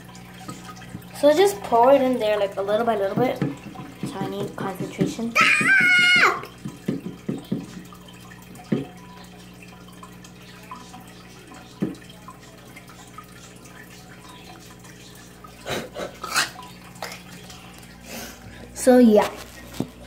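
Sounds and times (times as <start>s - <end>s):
aquarium filter trickling water: 0.0s - 20.0s
low pump hum: 0.0s - 20.0s.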